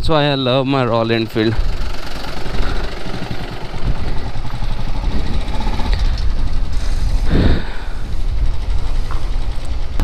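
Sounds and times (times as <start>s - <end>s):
motorcycle engine running: 0.4s - 10.0s.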